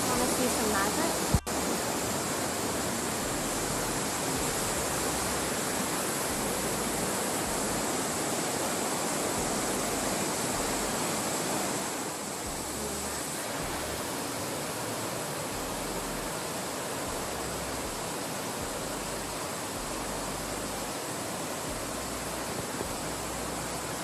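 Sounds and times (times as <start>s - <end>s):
stream rushing over boulders: 0.0s - 24.0s.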